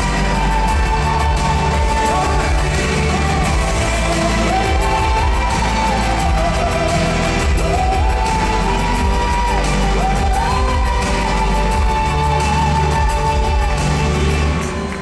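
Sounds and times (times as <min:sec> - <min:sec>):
backing music over loudspeakers: 0:00.0 - 0:15.0
woman singing pop ballad: 0:00.0 - 0:15.0.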